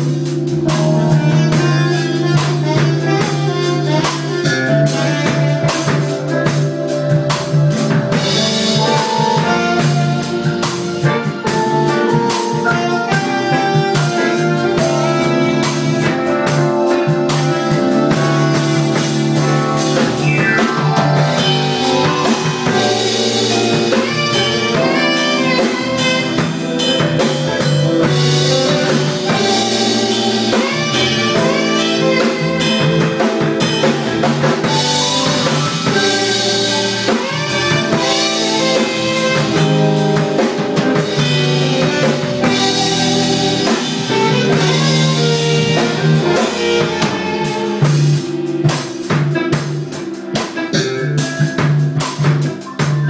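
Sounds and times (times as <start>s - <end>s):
alto saxophone: 0.0s - 53.0s
band playing instrumental groove: 0.0s - 53.0s.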